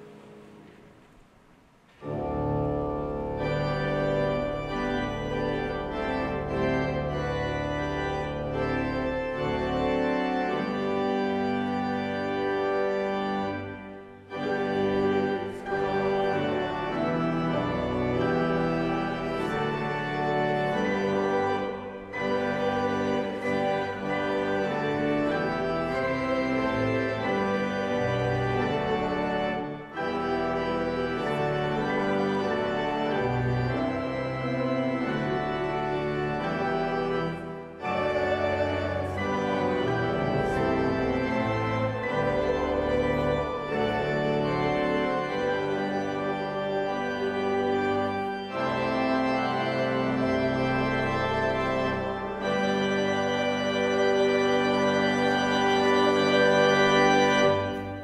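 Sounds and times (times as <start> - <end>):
church organ chords: 0.0 - 58.0
grand piano chords: 0.0 - 58.0.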